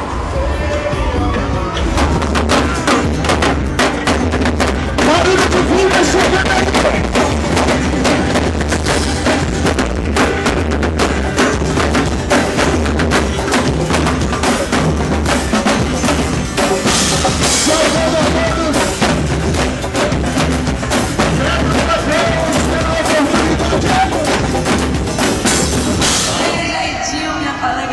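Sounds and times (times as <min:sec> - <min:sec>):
band playing music: 0:00.0 - 0:27.1
drum kit beat: 0:00.9 - 0:26.9.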